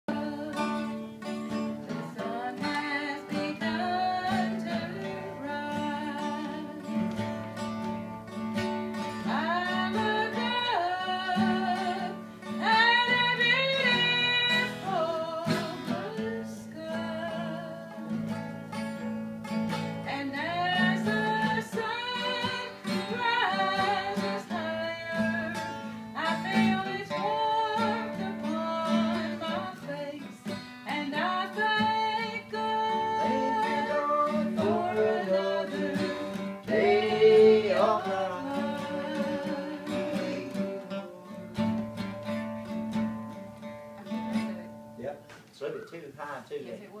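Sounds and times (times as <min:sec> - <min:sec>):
man and woman singing: 0:00.1 - 0:07.4, 0:08.9 - 0:18.4, 0:19.9 - 0:42.4
acoustic guitar strummed: 0:00.1 - 0:46.4.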